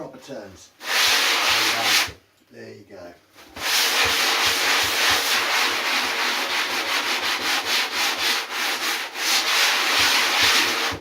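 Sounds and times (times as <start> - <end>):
sandpaper rubbing on foam: 0.8 - 2.2, 3.4 - 11.0.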